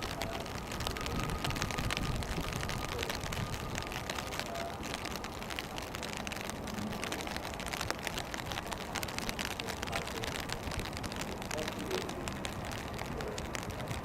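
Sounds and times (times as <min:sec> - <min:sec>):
rain drops pattering: 0:00.0 - 0:14.0.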